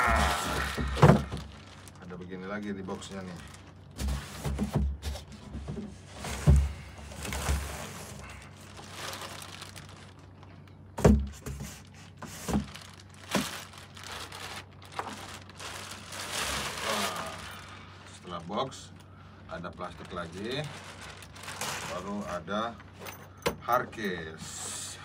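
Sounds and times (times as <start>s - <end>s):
plastic wrapping crinkling: 0.0s - 4.6s, 6.4s - 22.5s.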